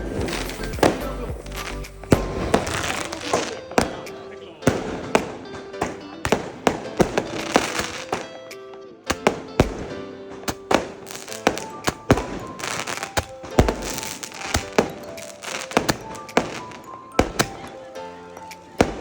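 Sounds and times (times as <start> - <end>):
background music: 0.0 - 19.0
fireworks bangs: 0.0 - 19.0
fireworks crackling: 0.0 - 19.0.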